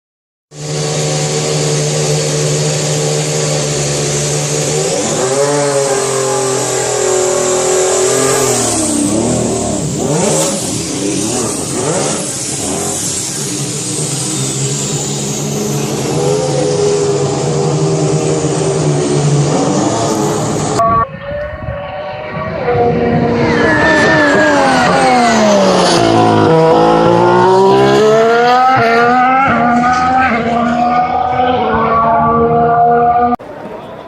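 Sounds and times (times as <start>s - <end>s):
racing car engine running loud: 0.5s - 33.4s.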